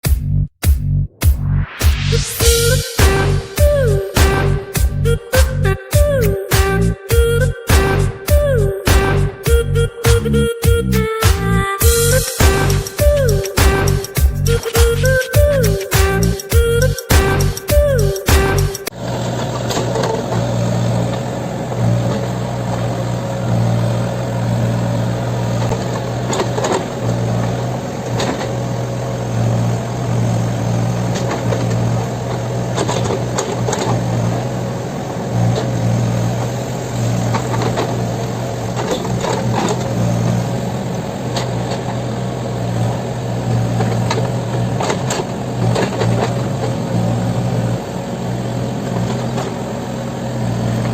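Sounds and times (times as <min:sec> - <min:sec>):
diesel engine running: 0:01.5 - 0:50.9.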